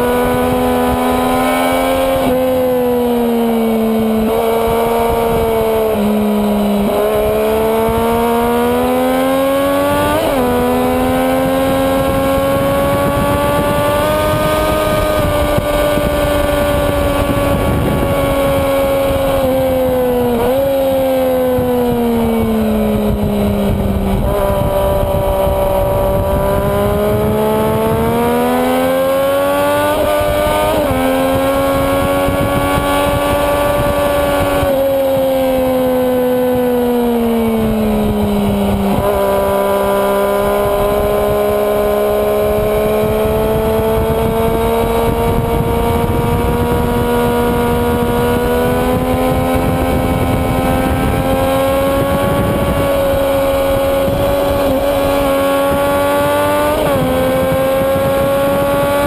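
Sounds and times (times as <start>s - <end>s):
motorcycle engine at speed: 0.0s - 59.0s
wind rush: 0.0s - 59.0s.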